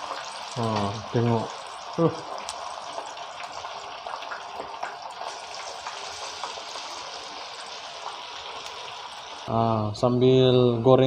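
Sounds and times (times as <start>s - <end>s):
oil crackling and spitting: 0.0s - 9.5s
fish sizzling in hot oil: 0.0s - 10.0s.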